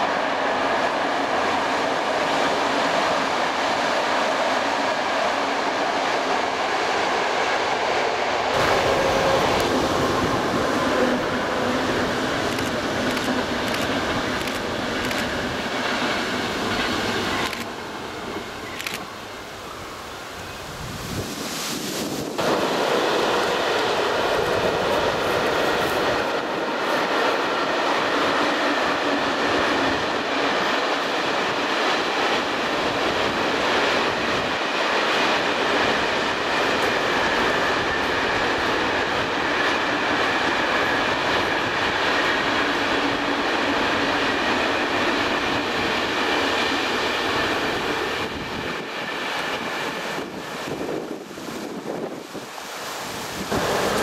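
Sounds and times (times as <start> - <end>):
freight train wheels rumbling: 0.0 - 21.0, 21.8 - 52.6, 53.2 - 54.0.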